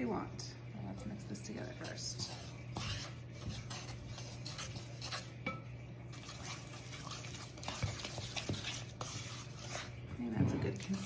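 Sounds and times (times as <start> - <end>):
utensil scraping gritty mix in bowl: 0.9 - 11.0.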